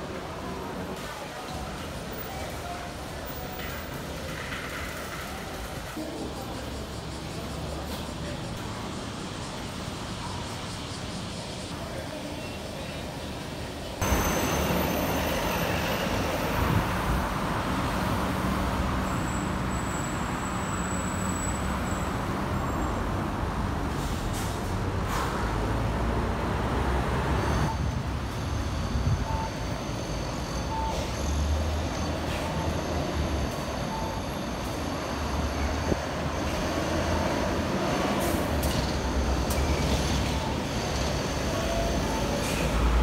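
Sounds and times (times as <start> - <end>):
road vehicle engine hum: 0.0 - 43.0.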